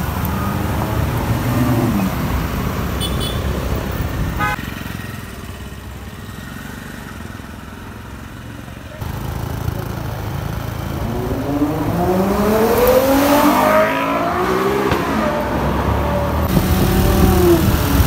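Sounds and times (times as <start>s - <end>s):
traffic engines rumbling: 0.0s - 18.0s.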